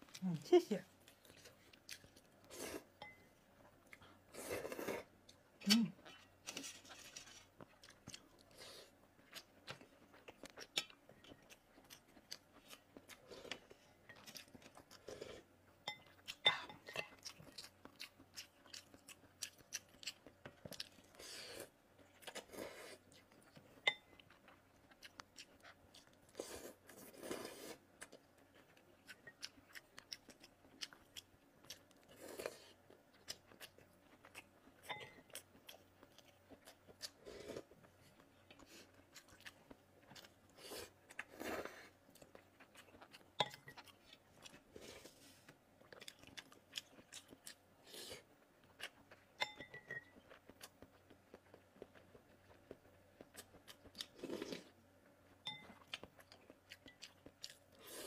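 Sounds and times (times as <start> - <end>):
chewing noodles: 6.0 - 58.0.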